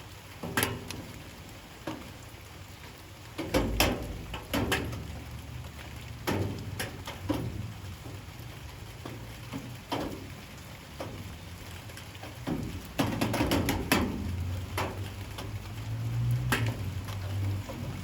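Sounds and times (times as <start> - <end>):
light rain: 0.0 - 18.0
drips knocking on hard surfaces: 0.4 - 2.2, 3.3 - 18.0.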